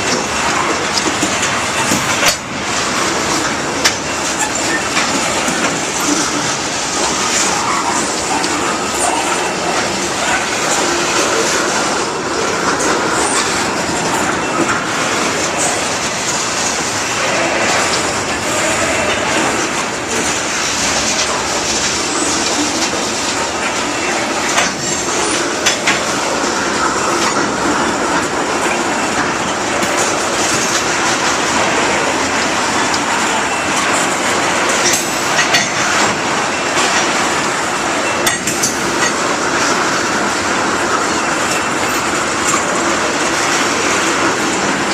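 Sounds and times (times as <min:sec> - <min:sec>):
train wheels clacking over rail joints: 0:00.0 - 0:44.9.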